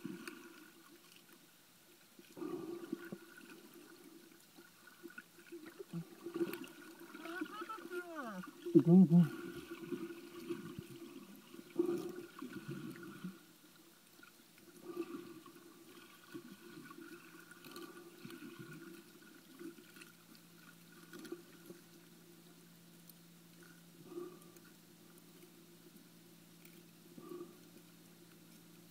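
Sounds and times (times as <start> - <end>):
faint low hum: 0.0 - 28.9
muffled underwater sloshing: 0.0 - 28.9.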